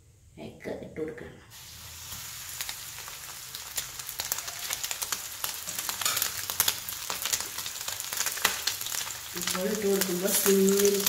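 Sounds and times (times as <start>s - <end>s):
egg sizzling in hot oil: 1.5s - 11.0s.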